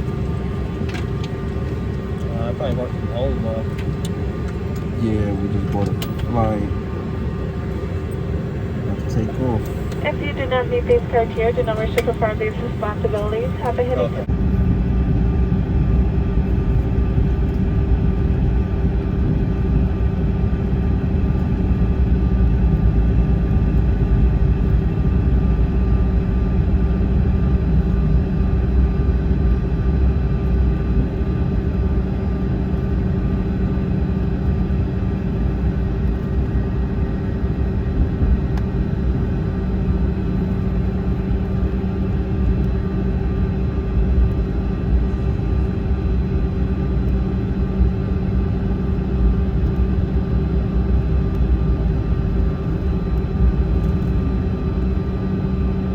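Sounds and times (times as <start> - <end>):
airliner engines rumbling: 0.0 - 55.9
constant hum: 0.0 - 55.9.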